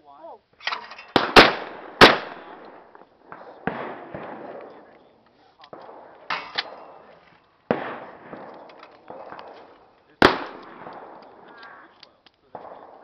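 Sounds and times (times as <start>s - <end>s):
shotgun shots with echo: 1.1s - 7.1s, 7.7s - 11.9s, 12.5s - 13.0s.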